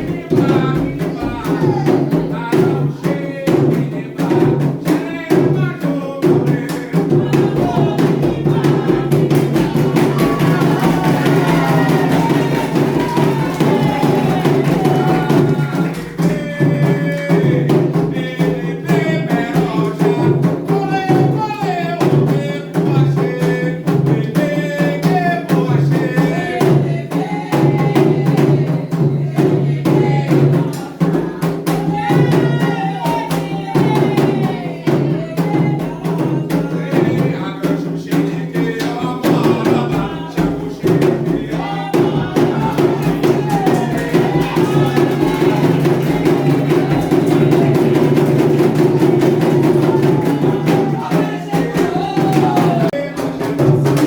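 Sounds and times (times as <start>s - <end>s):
hand drums drumming: 0.0s - 54.0s
voices singing a chant: 0.0s - 54.0s.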